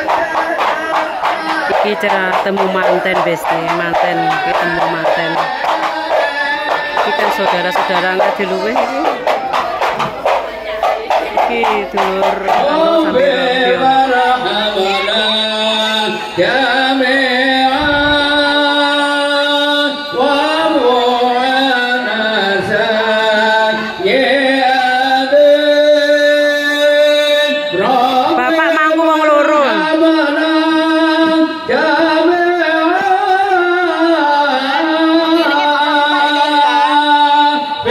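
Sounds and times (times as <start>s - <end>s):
man singing through loudspeaker: 0.0s - 37.9s.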